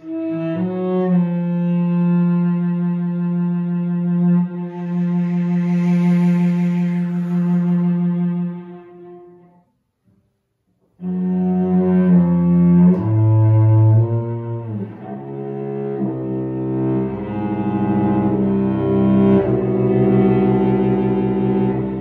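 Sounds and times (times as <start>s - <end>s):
solo cello bowed: 0.0s - 9.7s, 11.0s - 22.0s.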